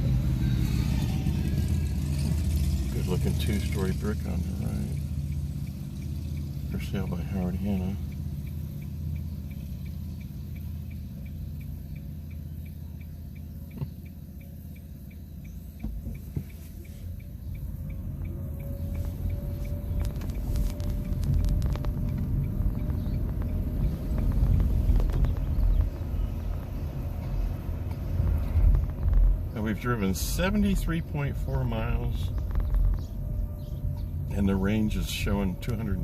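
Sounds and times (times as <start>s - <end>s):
light even ticking: 0.0s - 36.0s
road and tyre rumble in car: 0.0s - 36.0s.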